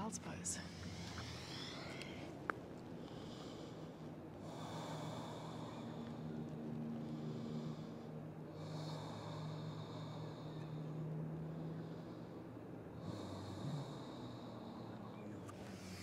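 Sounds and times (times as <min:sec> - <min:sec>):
faint low hum: 0:00.0 - 0:16.0
person breathing slowly: 0:00.6 - 0:16.0.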